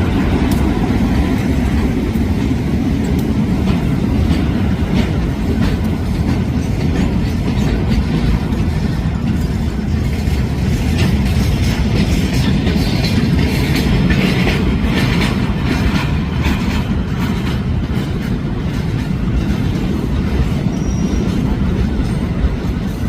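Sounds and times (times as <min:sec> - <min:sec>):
freight train rumbling past: 0:00.0 - 0:23.0
wheels clacking over rail joints: 0:00.0 - 0:23.0.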